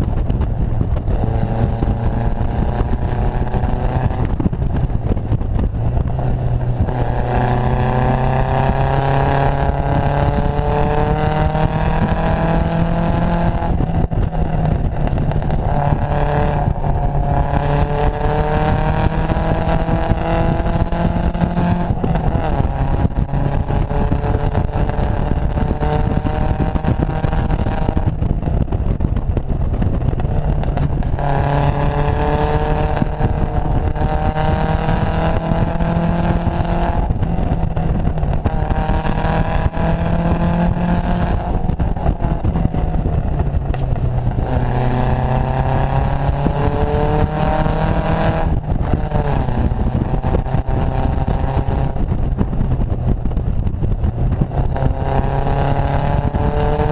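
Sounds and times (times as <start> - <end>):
wind and road noise: 0.0 - 56.9.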